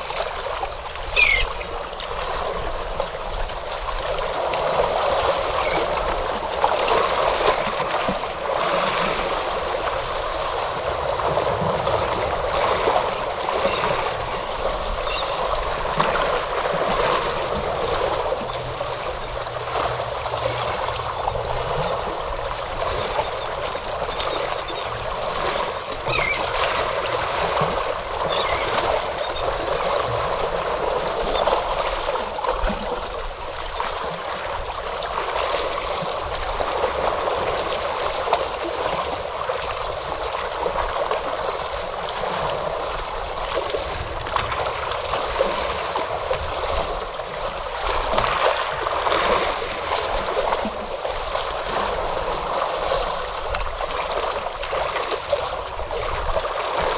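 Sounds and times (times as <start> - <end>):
water splashing and gurgling: 0.0 - 56.9.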